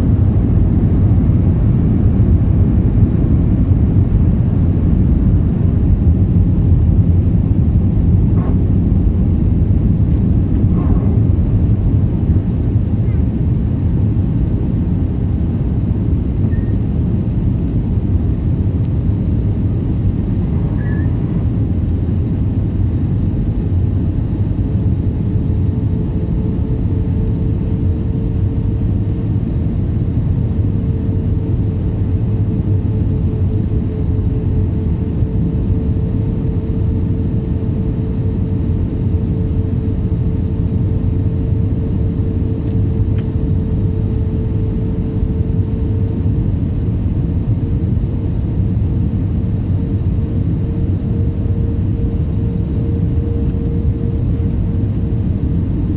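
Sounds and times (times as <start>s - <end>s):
jet engines rumbling: 0.0s - 55.9s
steady hum: 0.0s - 55.9s.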